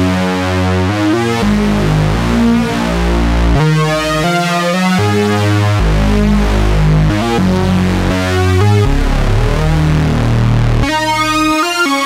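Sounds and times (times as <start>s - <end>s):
bright buzzy synthesizer notes: 0.0s - 12.0s.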